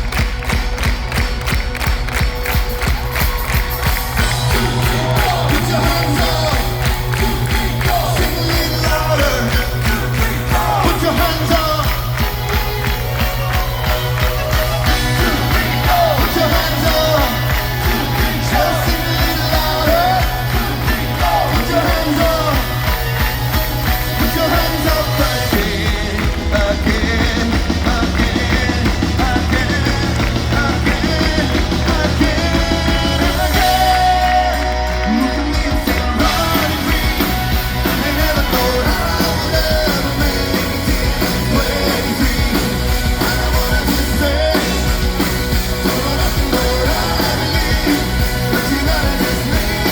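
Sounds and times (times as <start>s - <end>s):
live rock band playing: 0.0s - 49.9s
lead vocalist singing: 2.7s - 49.9s.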